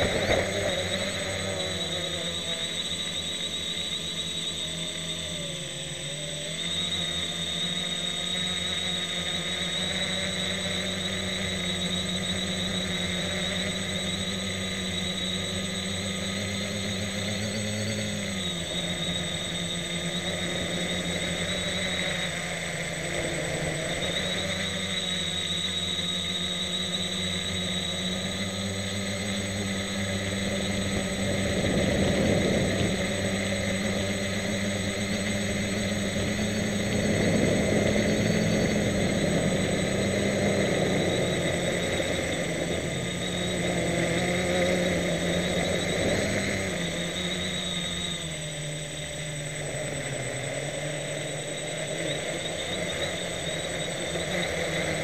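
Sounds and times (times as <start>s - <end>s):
drone propellers whirring: 0.0s - 55.0s.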